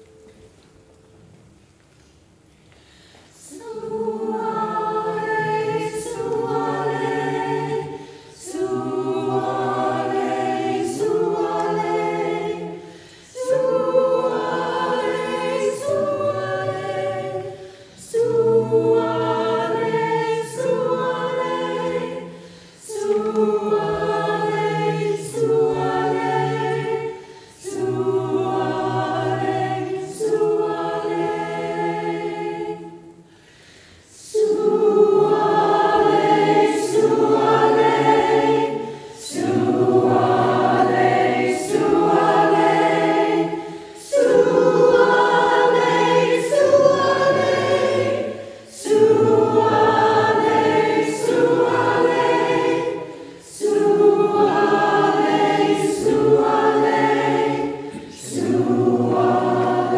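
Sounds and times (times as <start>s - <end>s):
choir singing in harmony: 3.3s - 59.9s.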